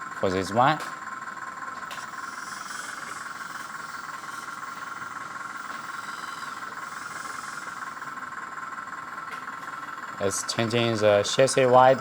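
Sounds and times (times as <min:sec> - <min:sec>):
hydraulic pump whine: 0:00.0 - 0:12.0.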